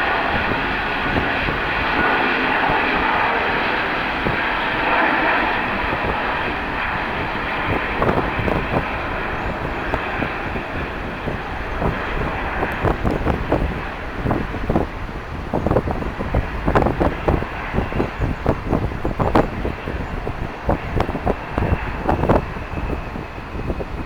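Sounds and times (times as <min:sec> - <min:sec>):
jet engines roaring past: 0:00.0 - 0:24.0
wind buffeting microphone: 0:00.0 - 0:24.0.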